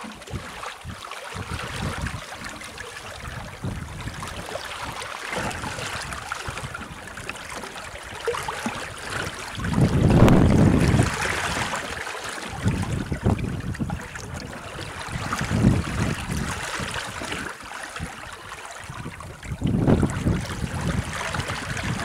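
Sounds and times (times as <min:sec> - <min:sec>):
water rushing past hull: 0:00.0 - 0:22.0
wind buffeting microphone: 0:00.0 - 0:22.0.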